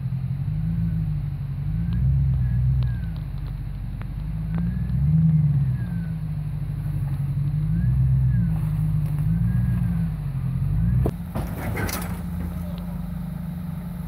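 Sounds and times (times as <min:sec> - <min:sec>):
engine revving in throttle blips: 0:00.0 - 0:14.0.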